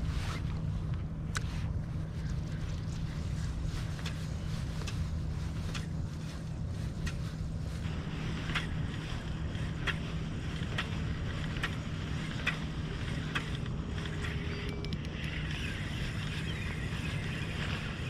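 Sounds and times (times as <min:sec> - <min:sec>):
low water rumble: 0:00.0 - 0:18.0.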